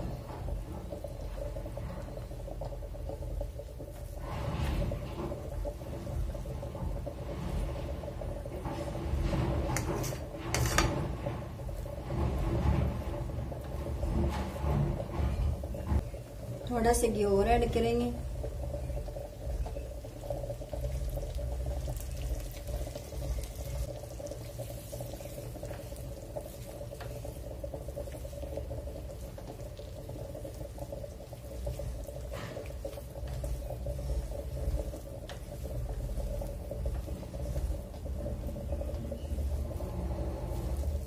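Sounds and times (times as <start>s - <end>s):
flour bubbling in ghee: 0.0s - 41.0s
low rumble: 0.0s - 41.0s
spatula stirring and scraping: 0.0s - 41.0s.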